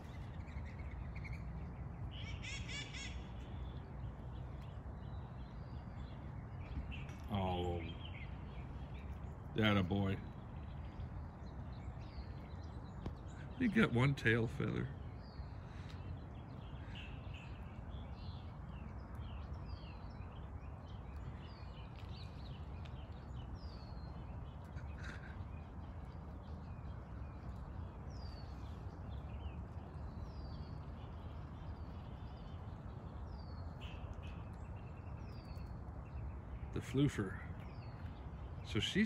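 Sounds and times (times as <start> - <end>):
low outdoor rumble: 0.0 - 39.0
small songbirds chirping: 0.0 - 39.0.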